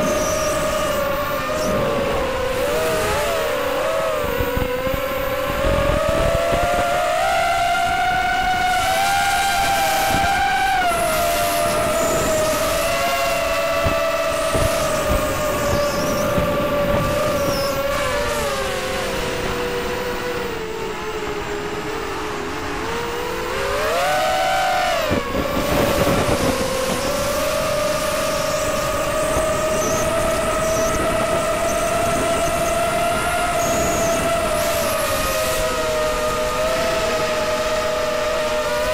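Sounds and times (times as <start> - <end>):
quadcopter motors whining: 0.0 - 38.9.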